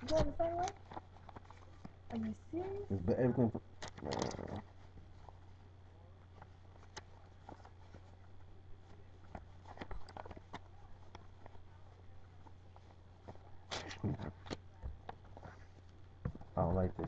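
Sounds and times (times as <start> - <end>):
faint clicks and rustles: 0.0 - 2.9, 3.7 - 17.0
steady low hum: 0.0 - 17.0.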